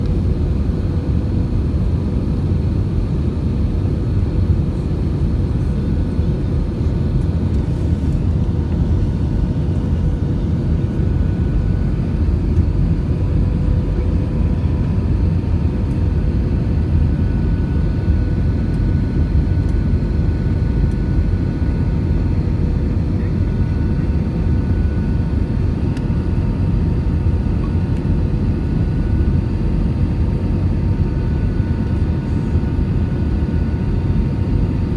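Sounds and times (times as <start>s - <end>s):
airplane cabin roar: 0.0s - 34.9s.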